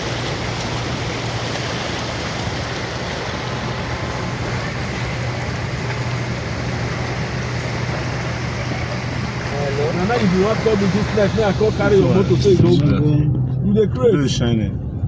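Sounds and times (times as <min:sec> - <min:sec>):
vehicle engine hum: 0:00.0 - 0:15.0
wind and road noise: 0:00.0 - 0:15.0.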